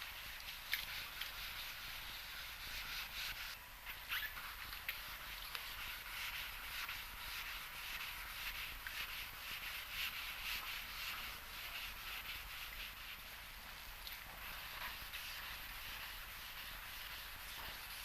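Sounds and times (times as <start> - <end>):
sandpaper rubbing by hand: 0.0 - 13.5, 14.4 - 18.0.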